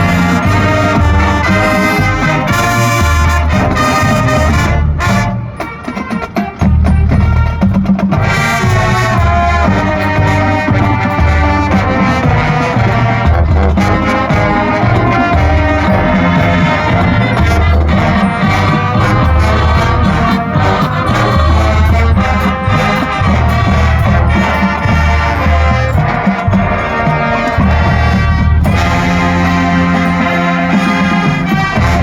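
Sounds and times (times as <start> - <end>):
brass: 0.0 - 32.0
marching band playing: 0.0 - 32.0
percussion: 0.0 - 32.0.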